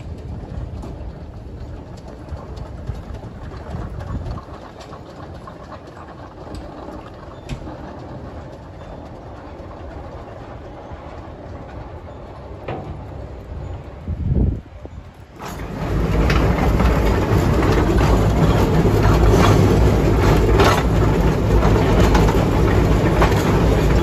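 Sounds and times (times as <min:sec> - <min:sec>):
steam locomotive rumbling on rails: 0:00.0 - 0:24.0.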